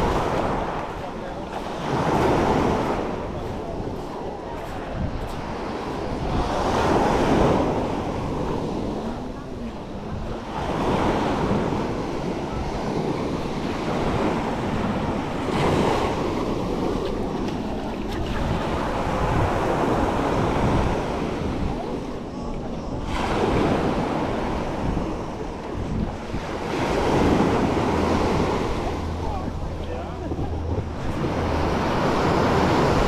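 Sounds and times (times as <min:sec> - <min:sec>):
sea waves breaking on beach: 0:00.0 - 0:33.0
wind buffeting microphone: 0:00.0 - 0:33.0.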